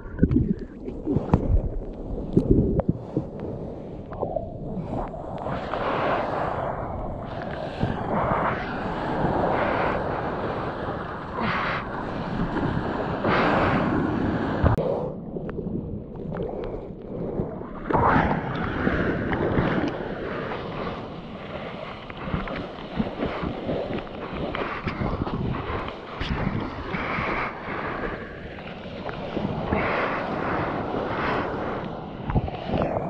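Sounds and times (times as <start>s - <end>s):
surf rushing and splashing: 0.0s - 15.1s, 16.5s - 33.0s
wind buffeting microphone: 0.0s - 33.0s.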